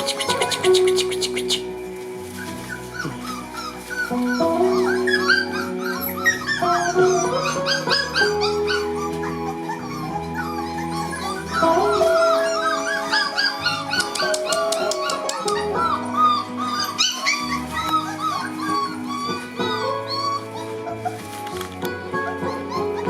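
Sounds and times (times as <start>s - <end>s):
background music with held notes: 0.0s - 23.0s
puppies yipping and whimpering: 0.0s - 23.0s.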